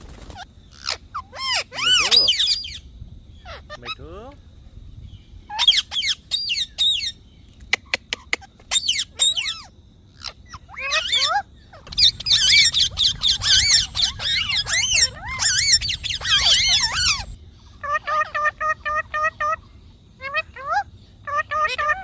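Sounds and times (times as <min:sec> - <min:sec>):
parrot squawking and chirping: 0:00.4 - 0:04.1, 0:05.5 - 0:07.2, 0:07.8 - 0:19.6, 0:20.2 - 0:22.0.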